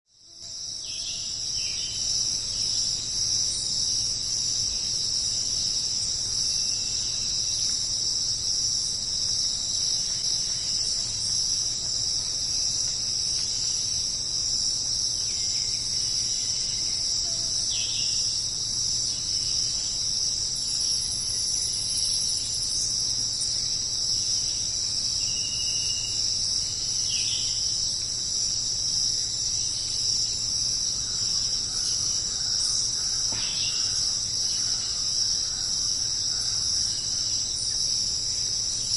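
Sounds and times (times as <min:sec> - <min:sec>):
insect chorus shrill buzz: 0:00.1 - 0:38.9.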